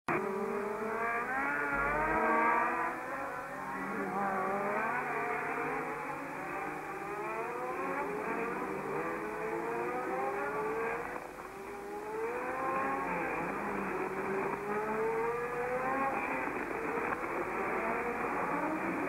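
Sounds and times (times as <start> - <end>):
racing car engines revving past: 0.1 - 19.0.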